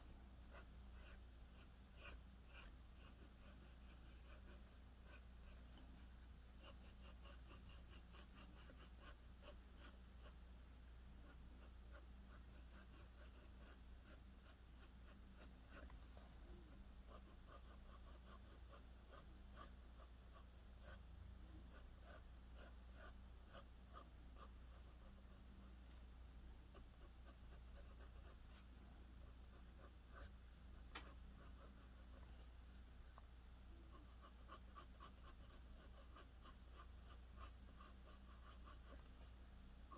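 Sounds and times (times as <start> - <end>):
low steady hum: 0.0 - 39.9
pencil scratching on paper: 0.5 - 10.4, 11.2 - 16.0, 17.1 - 25.7, 26.7 - 32.4, 33.9 - 39.1.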